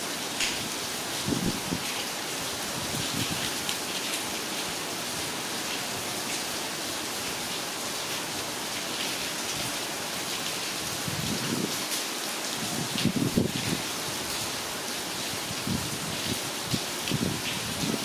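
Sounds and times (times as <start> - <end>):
heavy rain pattering: 0.0 - 18.0.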